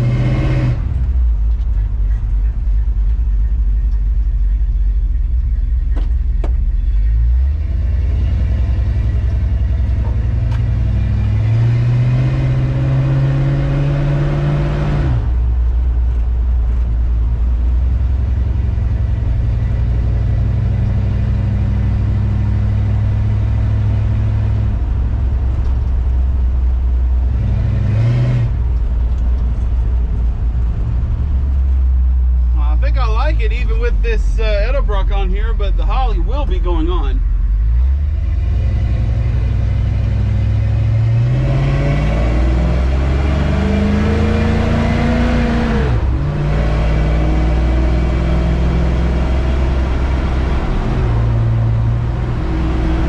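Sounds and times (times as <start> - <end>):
truck engine accelerating: 0.0 - 53.0.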